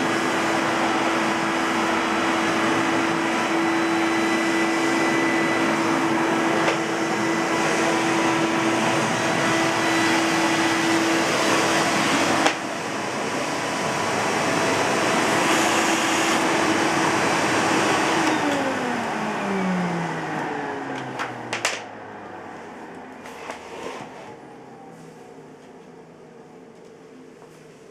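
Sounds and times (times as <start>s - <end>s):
vacuum motor winding down: 0.0s - 22.4s
vacuum cleaner motor whining: 0.0s - 27.4s.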